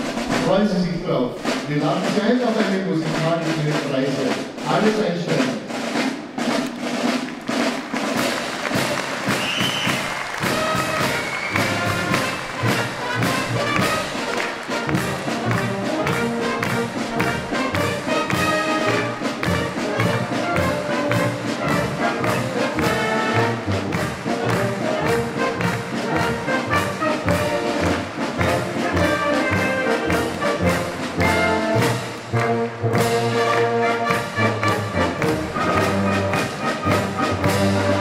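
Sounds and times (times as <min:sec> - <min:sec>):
bass drum and snare beat: 0:00.0 - 0:38.0
wind band playing a march: 0:00.0 - 0:38.0.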